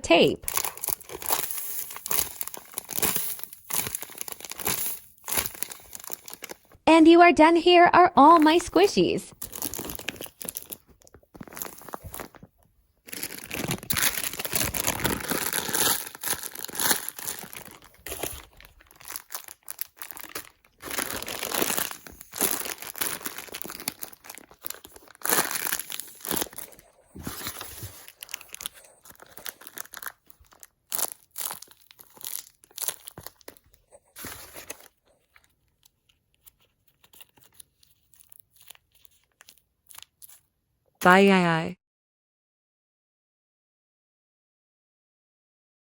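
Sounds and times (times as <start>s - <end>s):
chip bags crinkling: 0.4s - 6.8s, 9.3s - 40.5s.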